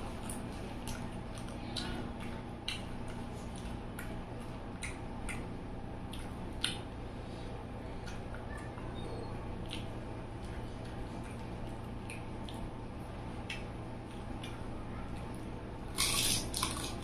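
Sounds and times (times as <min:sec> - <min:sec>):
steady background hum: 0:00.0 - 0:17.0
wet chewing sounds: 0:00.0 - 0:17.0.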